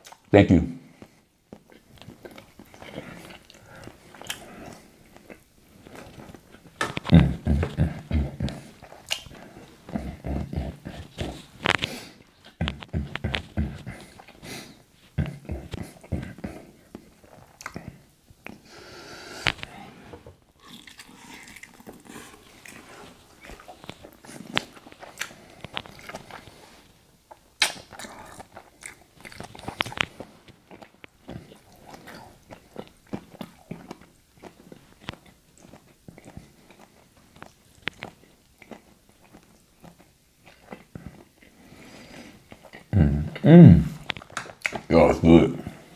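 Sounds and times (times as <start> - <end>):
man chewing food: 0.0 - 0.3, 0.9 - 44.9.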